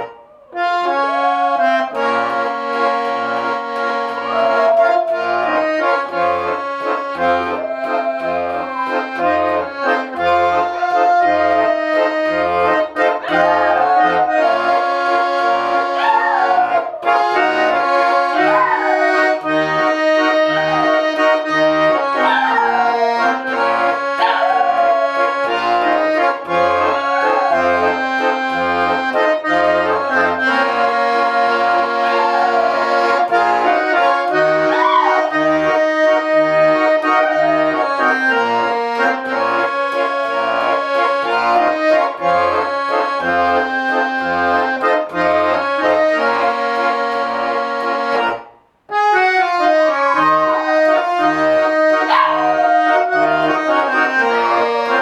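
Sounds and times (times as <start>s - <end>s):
button accordion playing slow melody: 0.0s - 55.0s.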